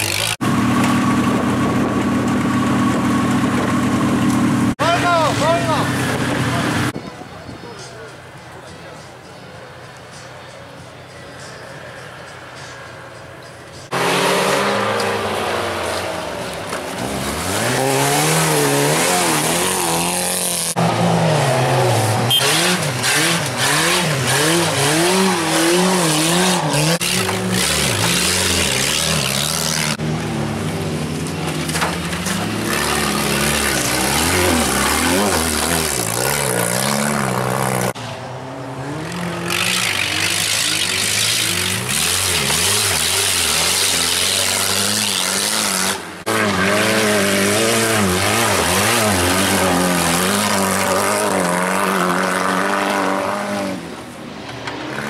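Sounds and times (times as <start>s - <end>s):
car engines revving hard: 0.0s - 7.0s, 13.7s - 55.0s.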